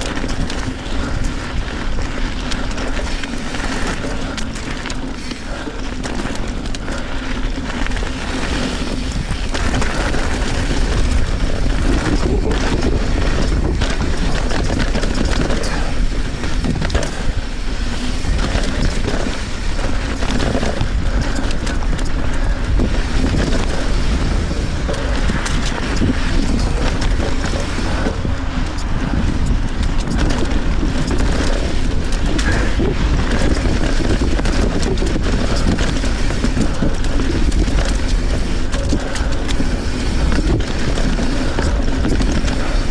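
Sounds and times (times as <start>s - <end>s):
bike rattles and clicks: 0.0s - 42.9s
bike tyre noise: 0.0s - 42.9s
wind buffeting microphone: 0.0s - 42.9s.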